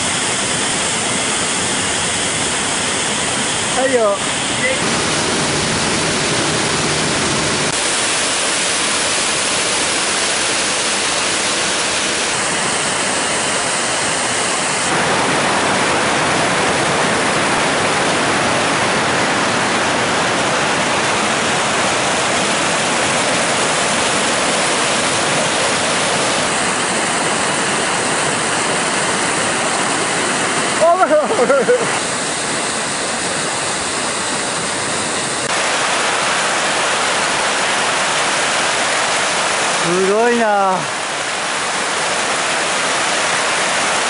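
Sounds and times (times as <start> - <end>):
mountain stream cascading: 0.0 - 44.0
waterfall rushing: 0.0 - 44.0.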